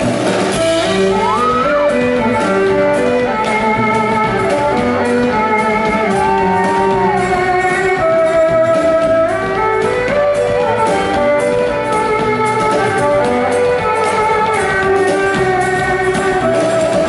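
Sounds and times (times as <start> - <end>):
live band instrumental music: 0.0 - 17.0.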